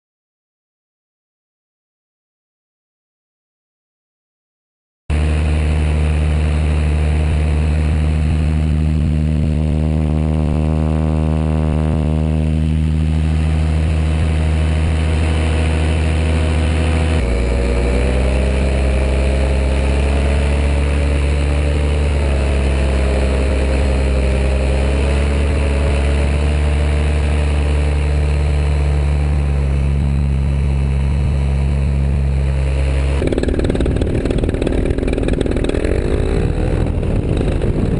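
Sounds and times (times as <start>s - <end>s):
small aircraft engine running: 5.1s - 37.9s.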